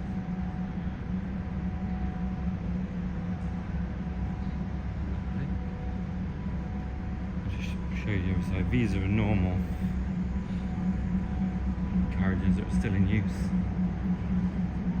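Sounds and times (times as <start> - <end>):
faint steady tones: 0.0 - 15.0
low mechanical drone: 0.0 - 15.0.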